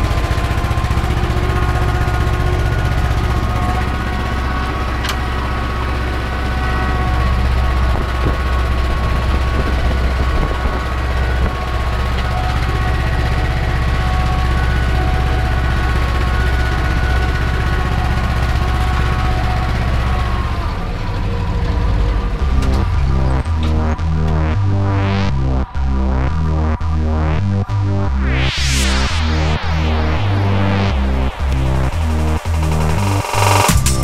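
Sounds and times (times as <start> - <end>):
tractor diesel engine under load: 0.0 - 28.3, 29.8 - 34.0.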